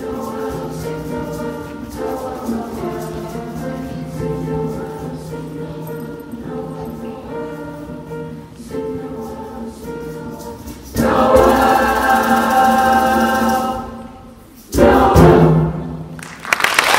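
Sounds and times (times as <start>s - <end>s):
youth choir singing: 0.0s - 16.0s.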